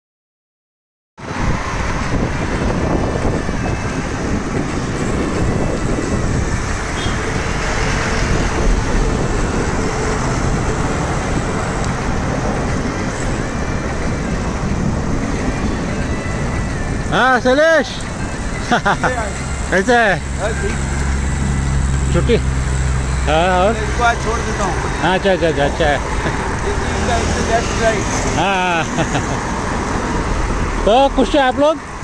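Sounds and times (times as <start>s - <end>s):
city road traffic: 1.2s - 32.0s.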